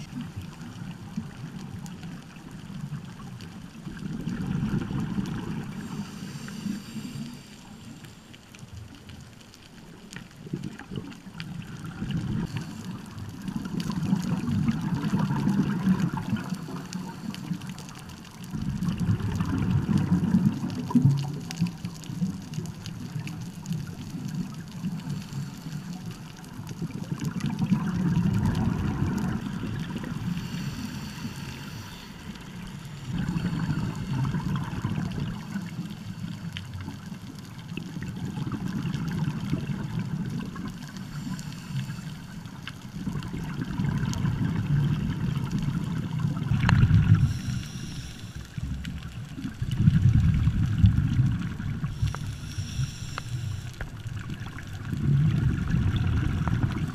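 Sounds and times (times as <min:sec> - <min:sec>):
exhaled bubbles gurgling underwater: 0:00.0 - 0:56.9.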